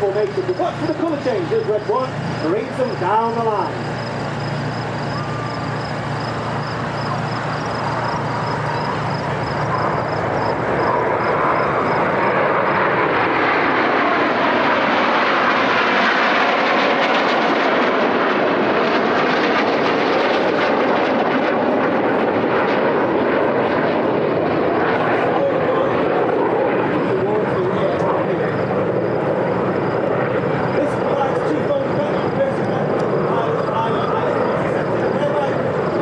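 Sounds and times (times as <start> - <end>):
jet engines passing: 0.0 - 36.0.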